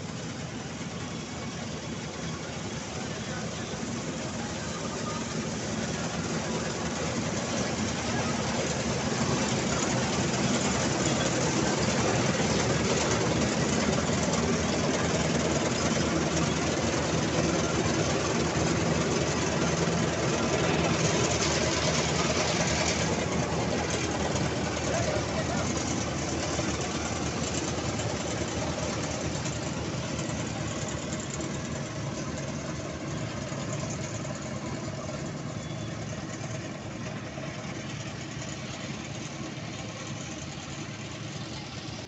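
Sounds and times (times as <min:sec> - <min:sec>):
tractor diesel engine drone: 0:00.0 - 0:42.0.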